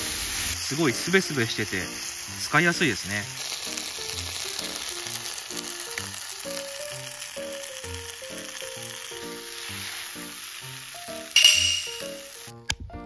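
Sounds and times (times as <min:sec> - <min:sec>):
food sizzling on a griddle: 0:00.0 - 0:12.7
background music: 0:00.0 - 0:13.0.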